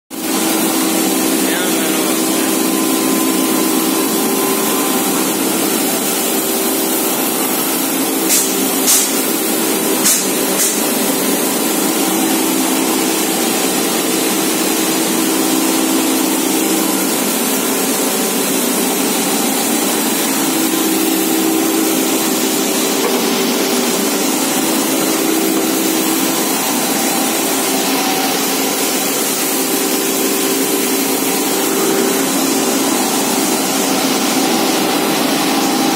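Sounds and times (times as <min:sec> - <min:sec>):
machinery hiss: 0:00.2 - 0:35.9
machinery hum: 0:00.2 - 0:35.9.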